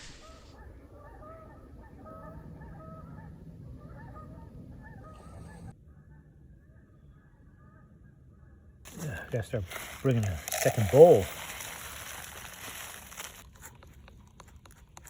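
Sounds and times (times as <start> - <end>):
geese honking: 0.2 - 13.4.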